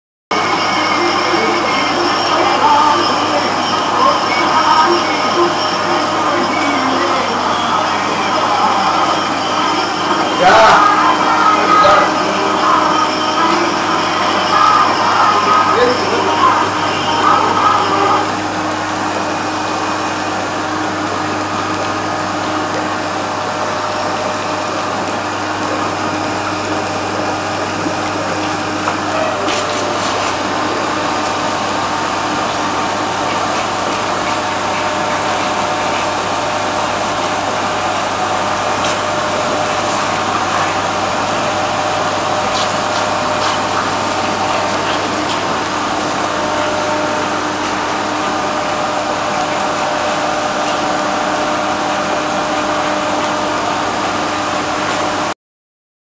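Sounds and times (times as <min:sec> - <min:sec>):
bathtub jet motor humming: 0:00.3 - 0:55.3
water churning and bubbling: 0:00.3 - 0:55.3.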